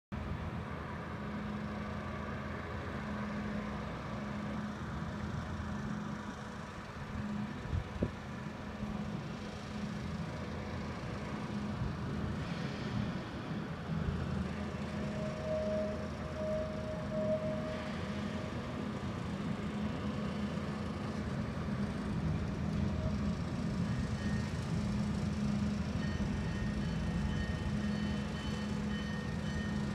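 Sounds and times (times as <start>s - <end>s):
diesel locomotive idling: 0.2s - 29.9s.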